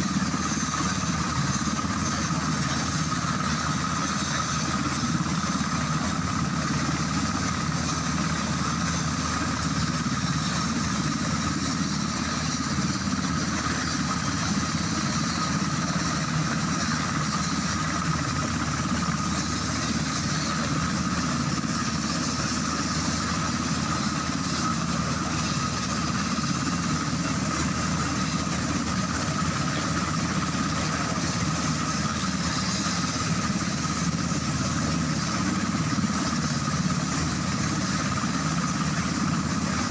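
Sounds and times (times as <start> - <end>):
helicopter turbine engines: 0.0 - 39.9.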